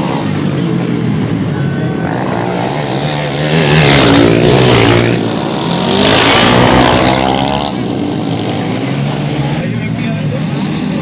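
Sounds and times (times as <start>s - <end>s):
motorcycles passing at high revs: 0.0s - 11.0s.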